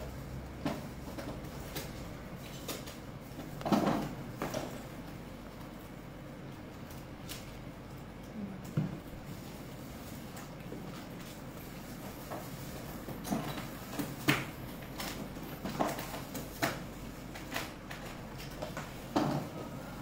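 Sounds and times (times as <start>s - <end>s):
room noise: 0.0s - 20.0s.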